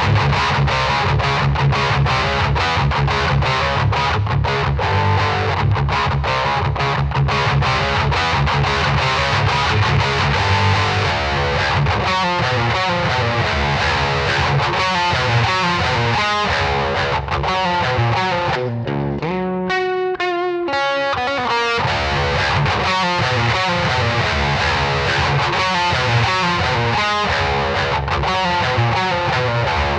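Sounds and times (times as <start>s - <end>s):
distorted electric guitar riffing: 0.0s - 29.9s.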